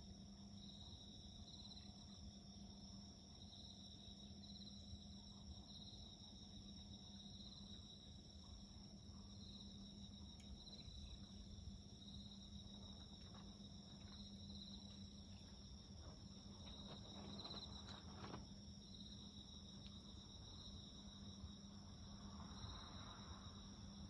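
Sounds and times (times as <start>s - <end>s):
crickets chirping: 0.0s - 24.0s
high insect drone: 0.0s - 24.0s
low steady hum: 0.0s - 24.0s.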